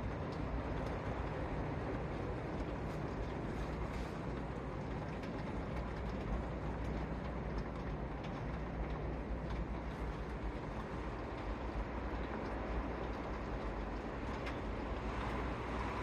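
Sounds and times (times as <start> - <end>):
heavy rain: 0.0 - 16.0
hurricane winds: 0.0 - 16.0.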